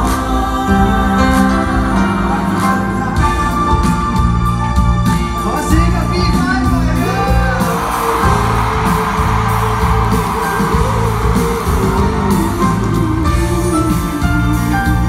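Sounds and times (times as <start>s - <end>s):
crowd screaming and cheering: 0.0s - 15.0s
live pop song with band: 0.0s - 15.0s.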